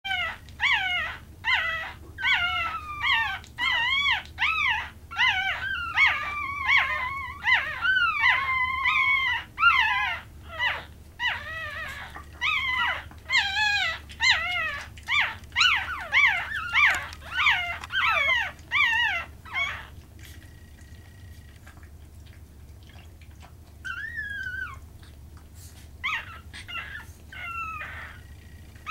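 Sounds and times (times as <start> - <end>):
puppies crying: 0.1 - 25.2, 25.8 - 28.9.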